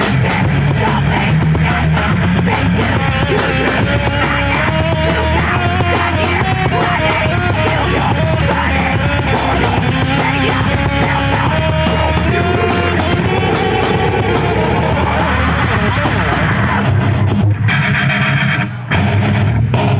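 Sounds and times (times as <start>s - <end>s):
bass guitar: 0.0s - 19.9s
distorted electric guitars: 0.0s - 19.9s
pounding drums and cymbals: 0.0s - 19.9s.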